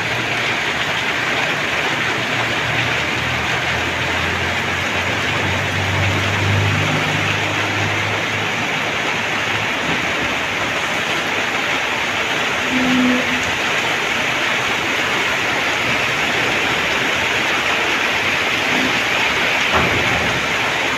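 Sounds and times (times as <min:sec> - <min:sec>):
heavy rain on river: 0:00.0 - 0:20.9
low engine hum: 0:00.0 - 0:20.9.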